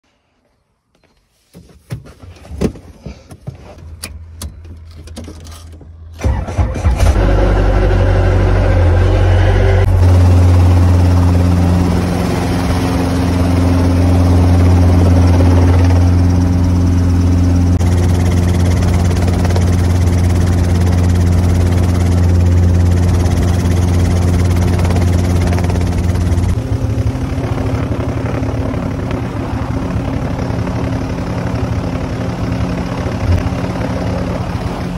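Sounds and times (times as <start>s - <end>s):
helicopter engine droning: 6.2s - 34.9s.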